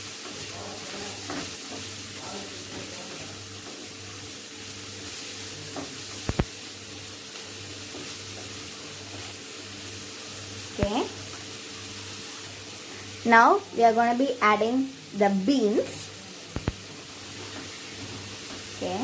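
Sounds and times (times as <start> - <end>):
onion and tomato sizzling: 0.0 - 19.0.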